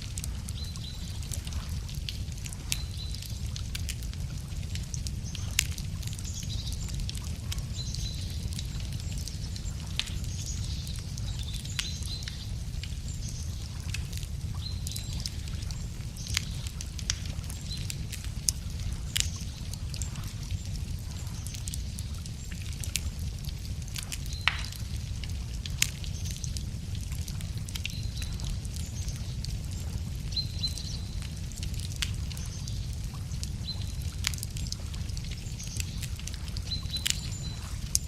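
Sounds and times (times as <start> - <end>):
bonfire crackling and popping: 0.0 - 38.0
small birds chirping: 0.0 - 38.0.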